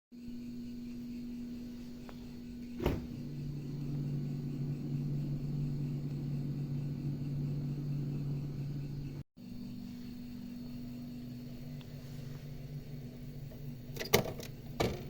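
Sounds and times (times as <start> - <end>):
lower hum: 0.2 - 14.8
refrigerator humming: 0.2 - 15.0.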